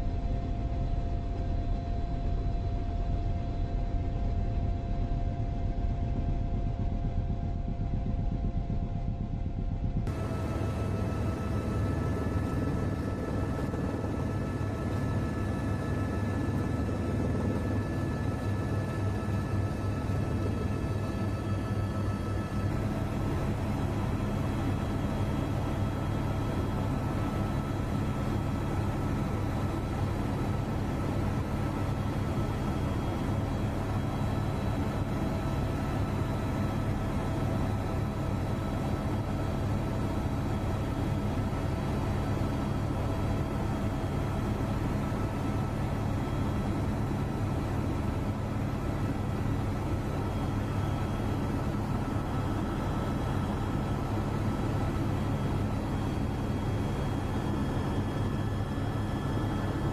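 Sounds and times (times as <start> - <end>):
aircraft engine drone: 0.0 - 59.9
faint steady tones: 0.0 - 59.9.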